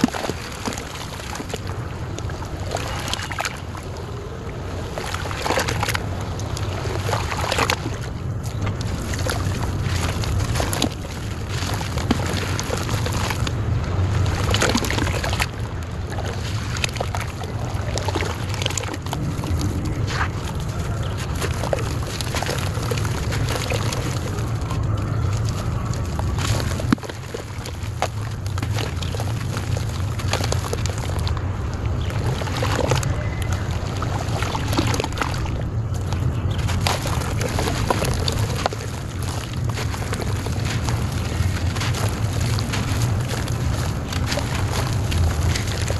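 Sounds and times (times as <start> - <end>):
clay crumbling and crackling: 0.0 - 45.9
mud sloshing and squishing: 0.0 - 45.9
steady low hum: 0.0 - 45.9
steady low rumble: 0.0 - 45.9.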